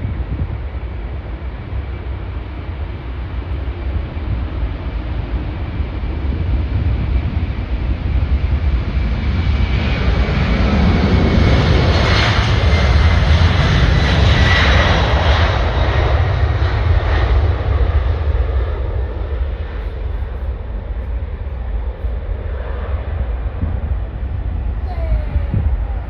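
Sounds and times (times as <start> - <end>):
jet airliner passing: 0.0 - 26.0.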